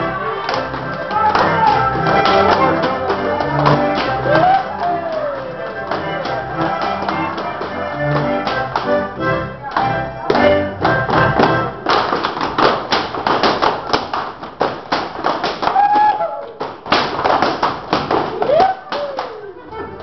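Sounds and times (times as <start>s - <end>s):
folk dance music: 0.0s - 20.0s
dancers slapping and stamping: 0.4s - 19.4s.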